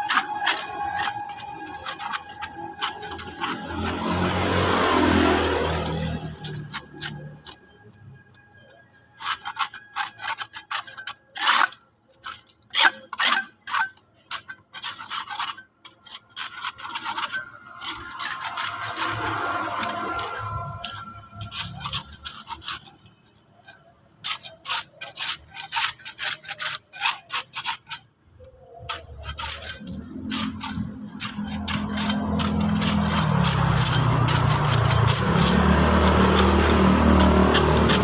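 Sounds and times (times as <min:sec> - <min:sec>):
hand tool scraping a wall: 0:00.0 - 0:38.0.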